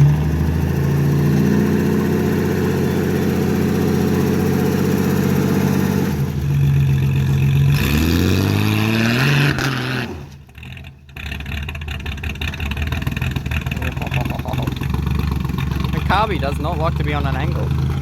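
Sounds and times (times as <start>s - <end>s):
engine running and revving: 0.0s - 18.0s.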